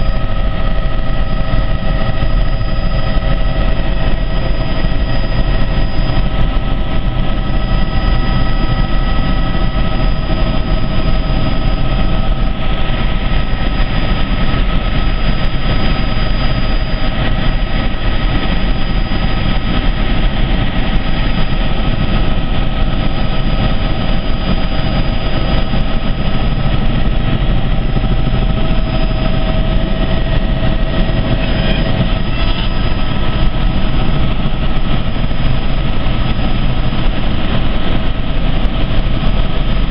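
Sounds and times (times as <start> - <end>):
helicopter turbine and rotor noise: 0.0 - 39.9
whining tones: 0.0 - 39.9.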